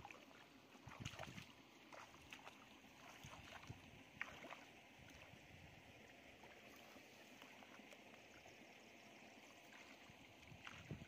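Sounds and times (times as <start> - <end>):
hands sloshing in muddy water: 0.0 - 5.6, 6.4 - 8.7, 9.3 - 11.0.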